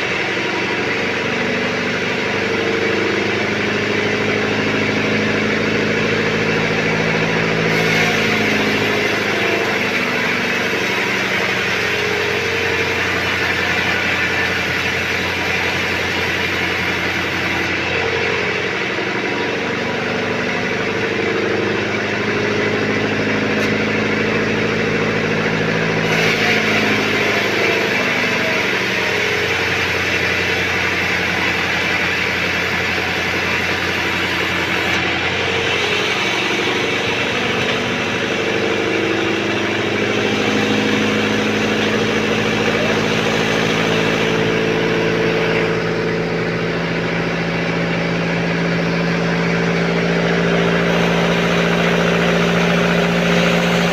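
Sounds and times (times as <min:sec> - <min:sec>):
band saw machine drone: 0:00.0 - 0:53.9.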